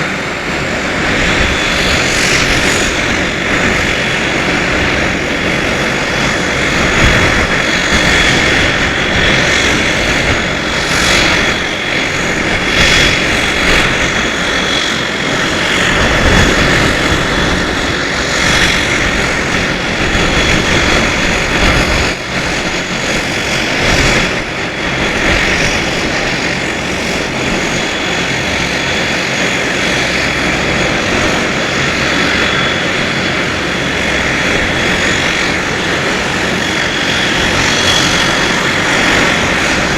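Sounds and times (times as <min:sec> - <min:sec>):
high-pitched engine whine: 0:00.0 - 0:39.9
turboprop propeller drone: 0:00.0 - 0:39.9.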